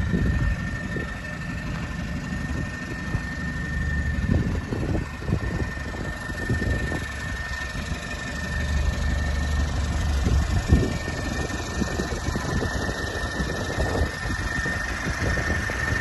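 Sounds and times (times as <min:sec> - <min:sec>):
high-pitched whine: 0:00.0 - 0:16.0
truck engine idling: 0:00.0 - 0:16.0.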